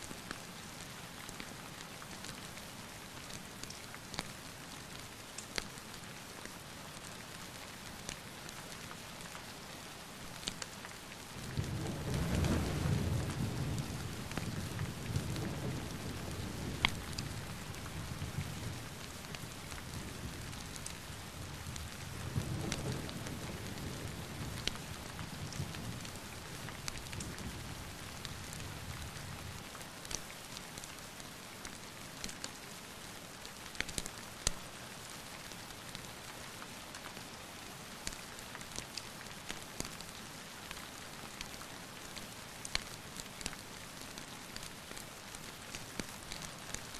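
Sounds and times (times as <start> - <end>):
rain drops ticking: 0.0 - 46.9
steady rain falling: 0.0 - 46.9.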